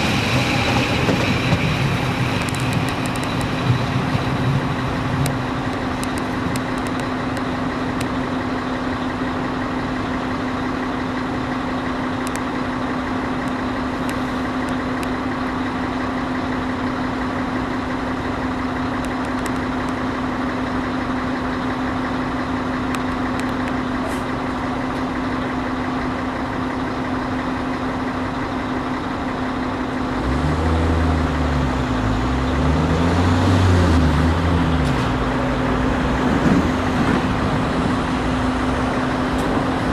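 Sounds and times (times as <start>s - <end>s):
low engine note: 0.0s - 39.9s
train hum: 0.0s - 39.9s.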